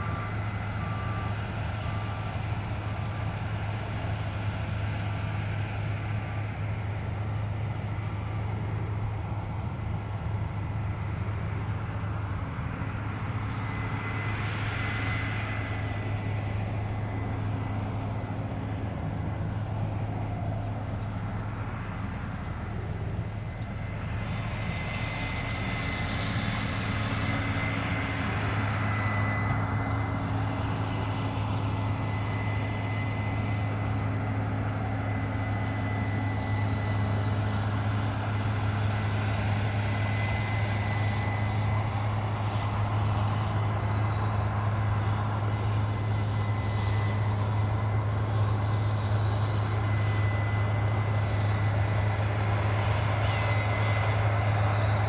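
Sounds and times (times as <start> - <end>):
harvester and tractor engines droning: 0.0 - 55.0.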